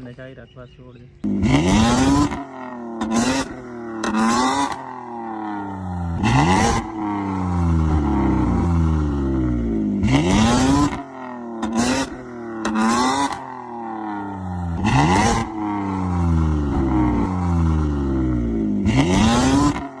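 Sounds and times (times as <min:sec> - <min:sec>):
diesel truck engine revving: 0:01.2 - 0:20.0.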